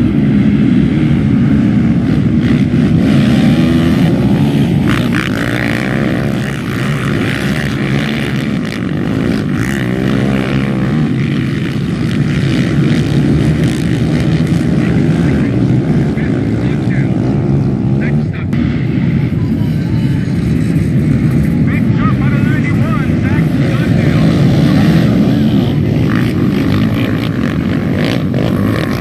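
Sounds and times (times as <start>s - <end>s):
racing quad engines revving: 0.0s - 29.0s.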